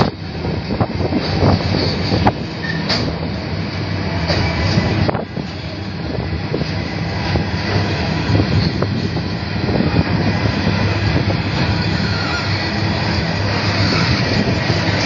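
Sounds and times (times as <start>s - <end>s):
diesel locomotive drone: 0.0s - 15.0s.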